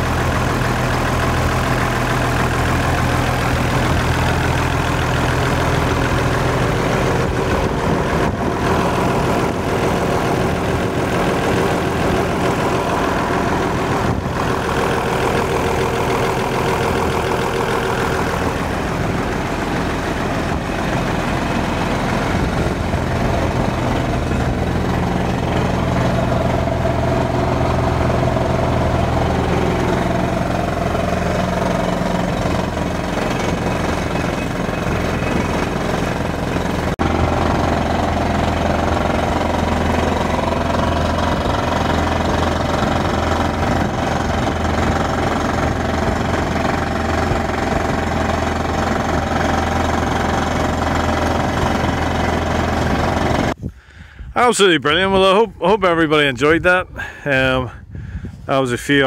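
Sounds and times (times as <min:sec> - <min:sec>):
air compressor running: 0:00.0 - 0:54.2
drilling rig engine running: 0:00.0 - 0:59.0.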